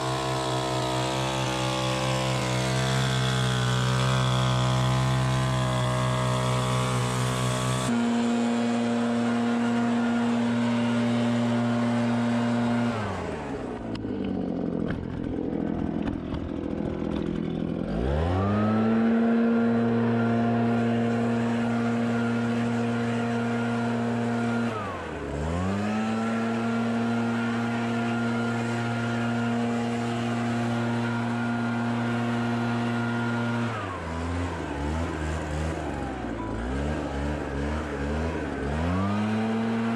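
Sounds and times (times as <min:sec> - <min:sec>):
leaf blower revving: 0:00.0 - 0:39.9
lower engine note: 0:00.0 - 0:39.9.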